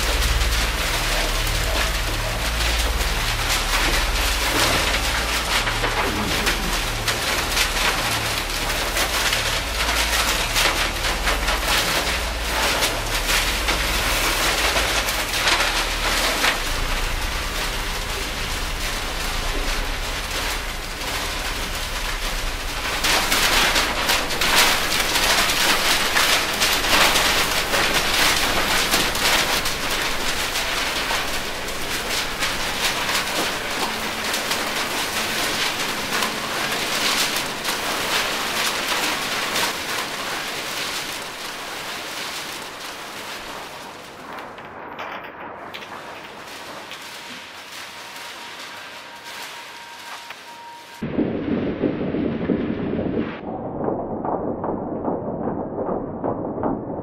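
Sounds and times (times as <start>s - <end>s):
paper sheets rustling: 0.0s - 51.0s
low throbbing: 0.0s - 57.0s.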